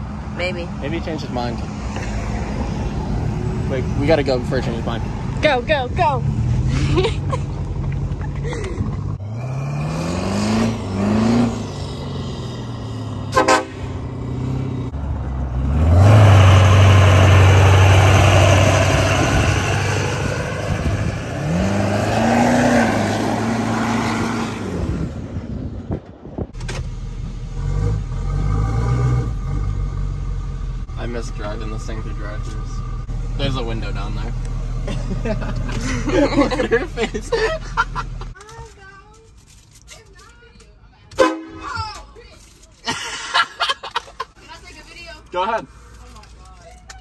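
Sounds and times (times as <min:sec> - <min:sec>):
diesel truck engines revving: 0:00.0 - 0:38.4.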